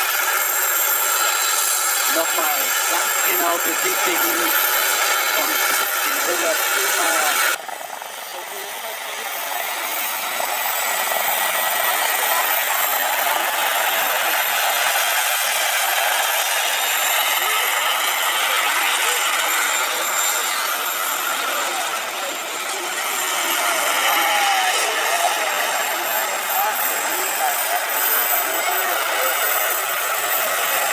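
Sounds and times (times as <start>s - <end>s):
model helicopter turbine whining: 0.0s - 30.9s.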